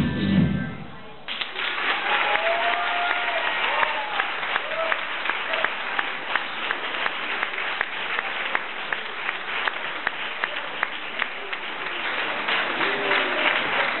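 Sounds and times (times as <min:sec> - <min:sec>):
audience applauding: 0:01.3 - 0:14.0
close rhythmic clapping: 0:01.3 - 0:14.0.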